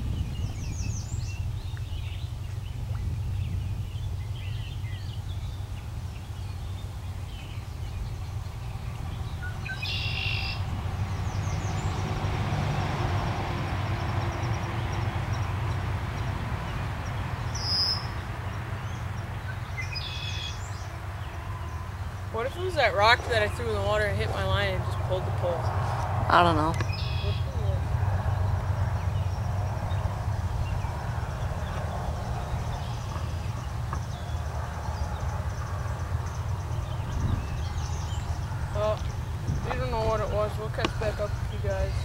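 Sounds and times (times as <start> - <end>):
small birds chirping: 0.0 - 42.0
steady low rumble: 0.0 - 42.0.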